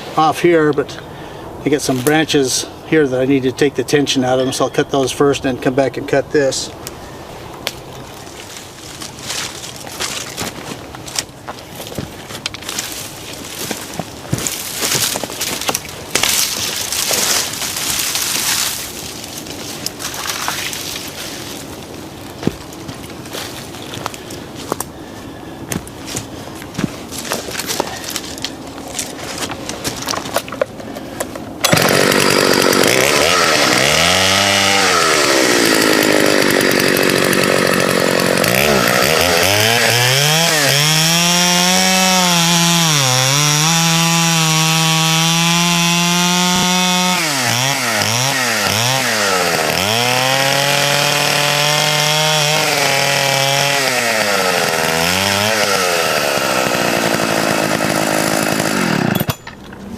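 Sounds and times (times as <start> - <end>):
chainsaw cutting branches: 8.3 - 59.6.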